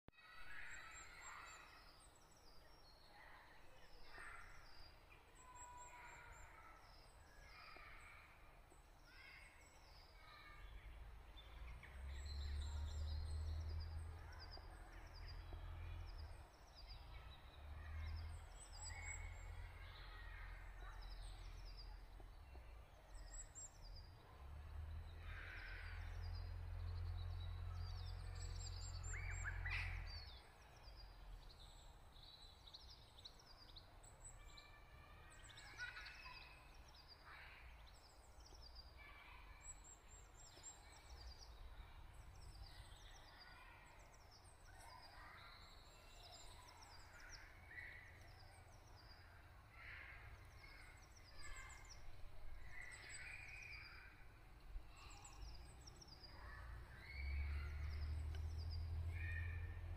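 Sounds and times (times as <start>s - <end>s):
small birds chirping and singing: 0.1s - 59.9s.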